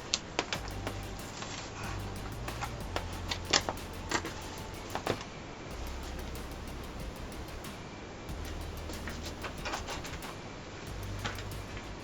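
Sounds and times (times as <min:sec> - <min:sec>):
soft background music: 0:00.5 - 0:12.0.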